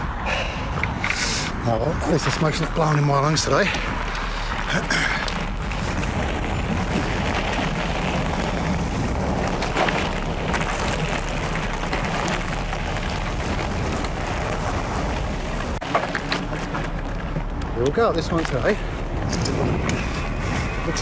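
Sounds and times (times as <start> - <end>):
bike rattles and clicks: 0.0 - 21.0
bike tyres on gravel trail: 0.0 - 21.0.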